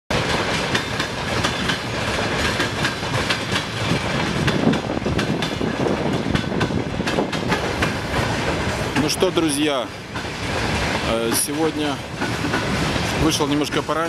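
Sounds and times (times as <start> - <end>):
clickety-clack over rail joints: 0.1 - 14.0
train wheels rumbling on rails: 0.1 - 14.0.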